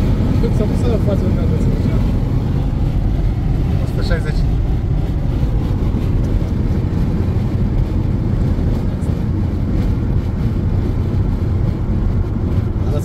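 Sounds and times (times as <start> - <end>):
tyre and wind noise in car: 0.0 - 13.0.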